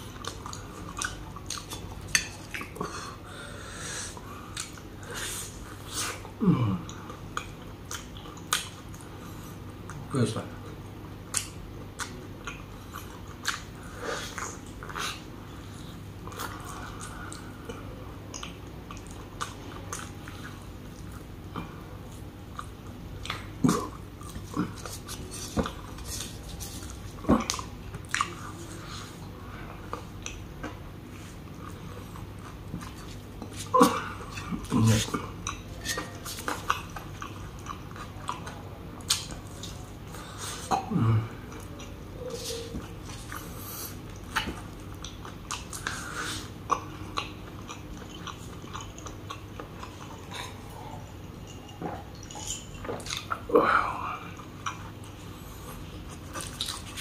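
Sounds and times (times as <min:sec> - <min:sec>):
person chewing food: 0:00.0 - 0:10.1, 0:11.2 - 0:57.0.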